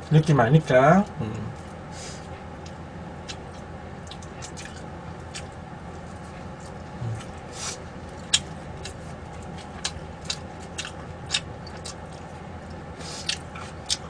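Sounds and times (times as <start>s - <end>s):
person chewing food: 2.2s - 14.0s.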